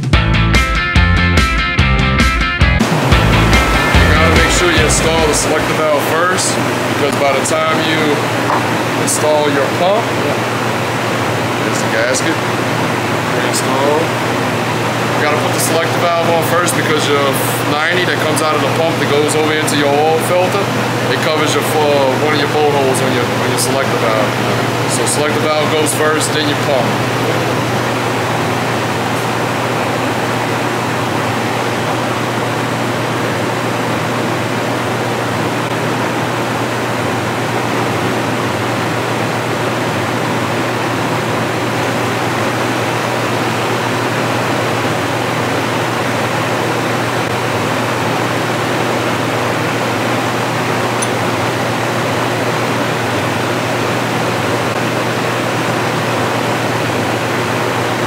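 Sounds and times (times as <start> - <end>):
drum fan rushing air: 0.0 - 58.0
low fan hum: 1.2 - 58.0.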